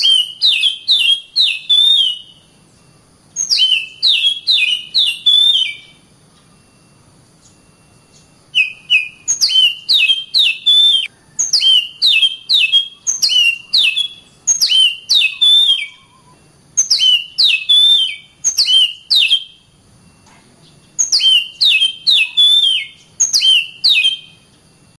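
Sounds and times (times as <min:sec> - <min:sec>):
bird singing whistled notes: 0:00.0 - 0:24.9.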